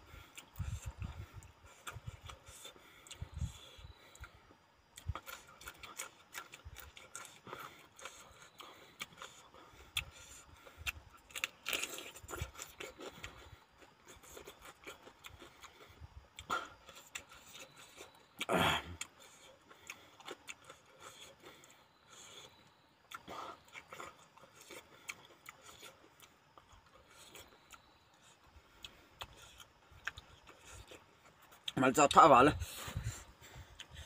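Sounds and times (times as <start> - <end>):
chewing: 0.1 - 34.0.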